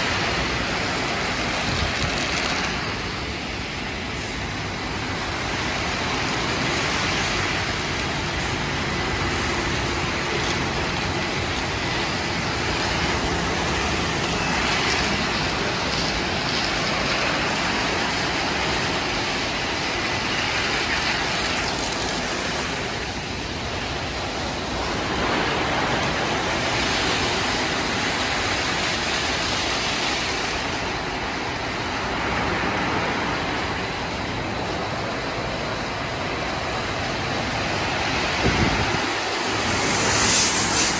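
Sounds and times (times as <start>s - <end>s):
car wash brushes rushing: 0.0s - 40.9s.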